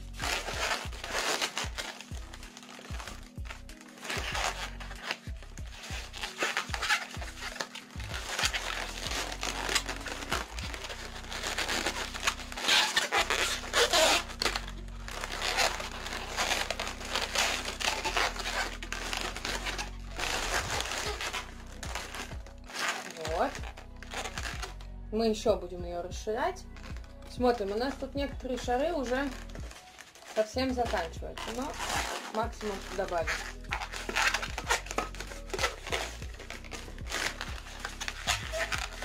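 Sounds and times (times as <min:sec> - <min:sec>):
balloons squeaking and crinkling: 0:00.0 - 0:39.0.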